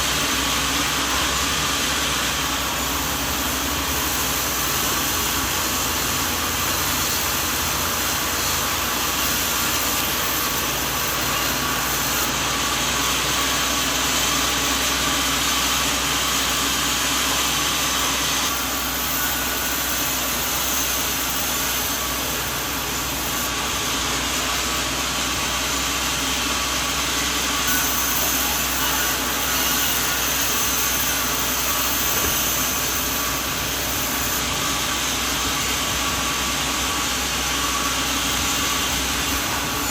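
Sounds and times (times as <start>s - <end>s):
hissing machine noise: 0.0s - 39.9s
sawmill engine hum: 0.0s - 39.9s.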